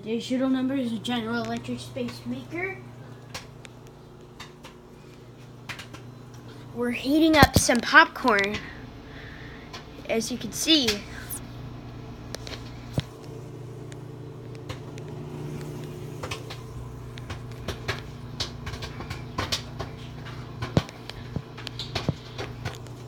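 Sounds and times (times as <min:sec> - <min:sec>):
microwave oven humming: 0:00.0 - 0:23.0
popcorn popping: 0:01.0 - 0:23.0.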